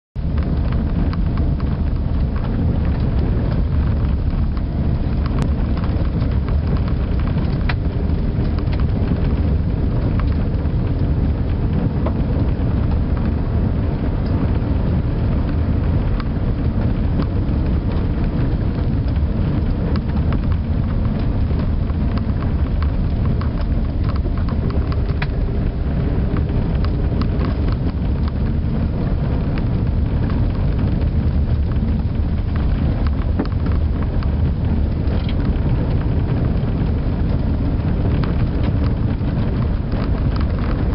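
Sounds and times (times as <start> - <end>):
low rumble of engine and tyres: 0.2 - 40.9
small ticks and rattles: 0.2 - 40.9.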